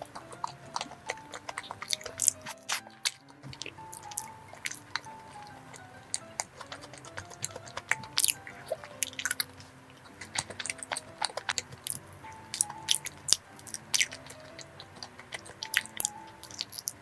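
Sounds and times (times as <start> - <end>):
close chewing of rice cake: 0.0 - 17.0
soft background music: 0.0 - 17.0.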